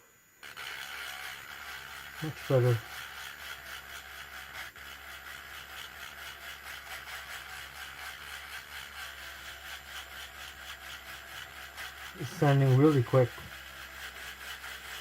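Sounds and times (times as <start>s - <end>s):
electric sander grinding: 0.4s - 15.0s.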